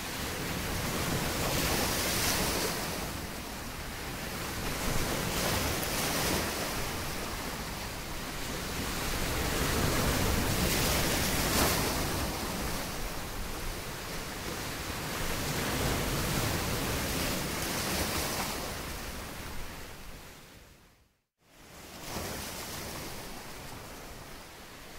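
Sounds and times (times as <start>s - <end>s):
ocean waves washing: 0.0s - 20.7s.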